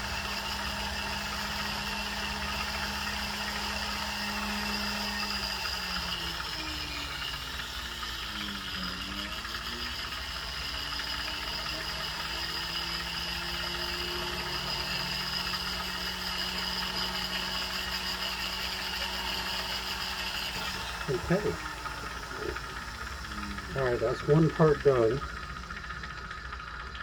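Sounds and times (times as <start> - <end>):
rotary tool motor running: 0.0 - 27.0.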